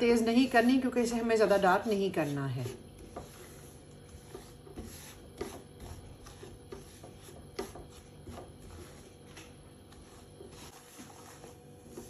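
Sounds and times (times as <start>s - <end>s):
spatula scraping a frying pan: 0.4s - 12.0s.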